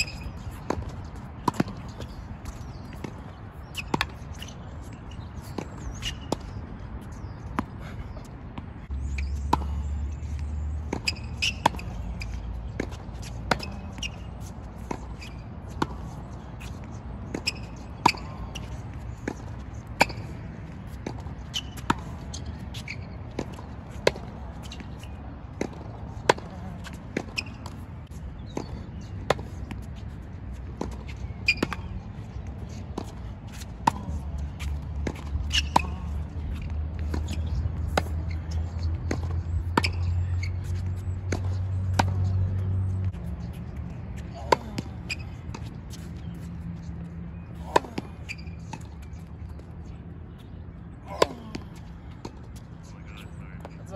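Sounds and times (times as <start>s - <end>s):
racket hitting tennis ball: 0.0s - 4.5s, 10.9s - 46.4s, 47.3s - 49.6s, 51.1s - 52.5s
tennis ball bouncing on court: 0.0s - 49.8s, 51.1s - 52.7s.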